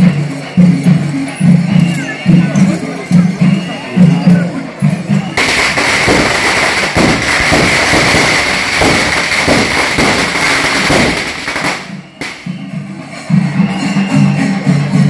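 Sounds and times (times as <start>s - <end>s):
firecrackers crackling: 0.1s - 13.9s.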